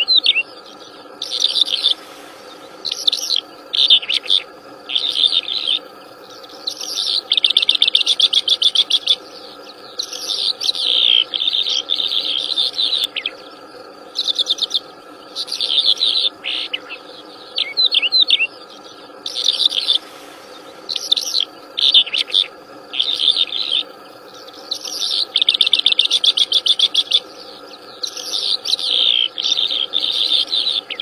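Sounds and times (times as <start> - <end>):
songbird chirps and trills: 0.0 - 31.0
steady background hum: 0.0 - 31.0.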